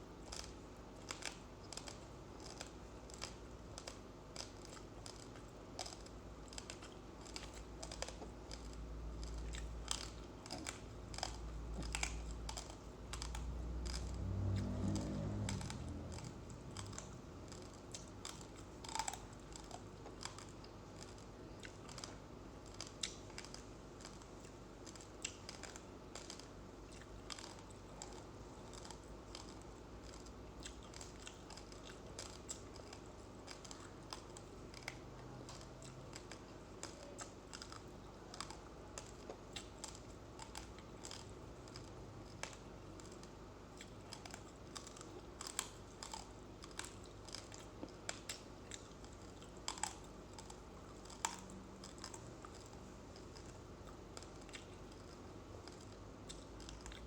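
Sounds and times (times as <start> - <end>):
chewing crunchy rice: 0.0 - 57.0.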